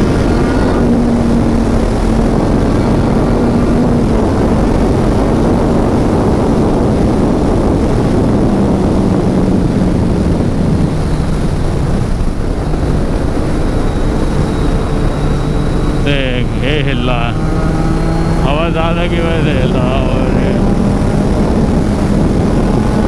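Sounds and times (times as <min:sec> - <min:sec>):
motorcycle engine drone: 0:00.0 - 0:23.0
wind rushing over microphone: 0:00.0 - 0:23.0.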